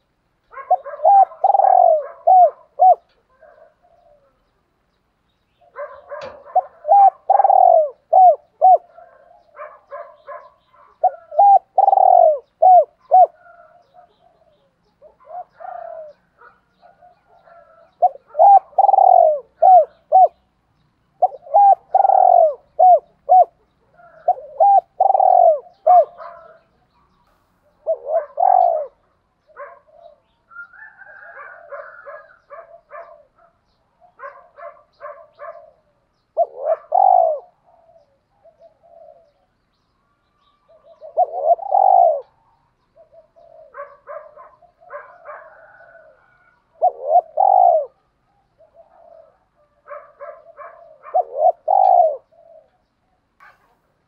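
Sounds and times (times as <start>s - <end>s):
dove cooing: 0.0s - 4.6s, 5.6s - 20.5s, 21.1s - 39.6s, 40.4s - 54.0s
high faint chirping: 0.0s - 54.0s.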